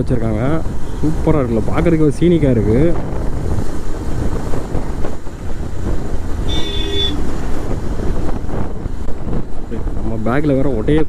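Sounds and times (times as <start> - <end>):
motorcycle running at speed: 0.0 - 10.5
wind rushing over microphone: 0.0 - 11.0.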